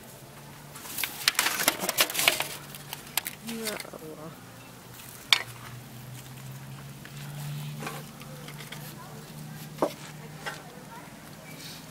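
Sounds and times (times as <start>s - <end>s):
faint background talk: 1.8s - 11.9s.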